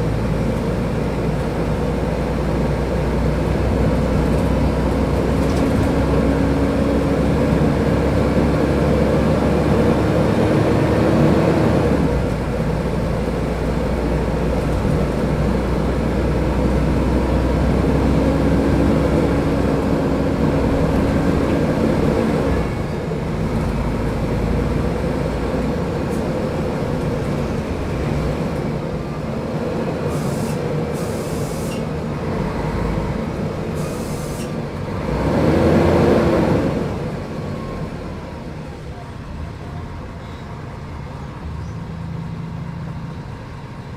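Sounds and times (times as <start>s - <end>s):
bus engine pulling under load: 0.0s - 43.9s.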